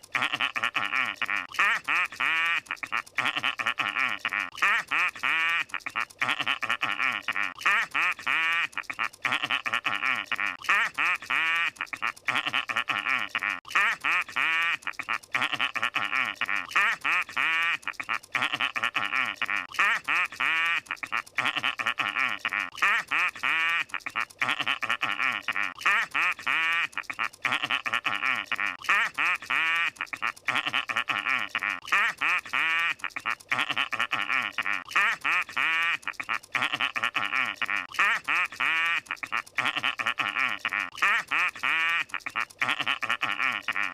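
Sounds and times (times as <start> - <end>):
nasal honking cartoon laugh: 0.0 - 43.9.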